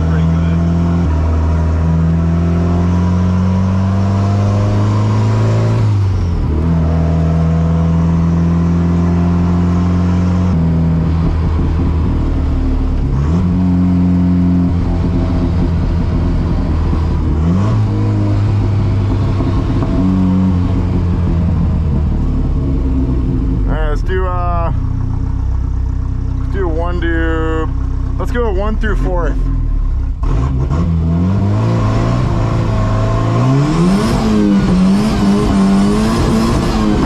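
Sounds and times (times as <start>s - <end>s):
car engine heard from cabin: 0.0s - 37.0s.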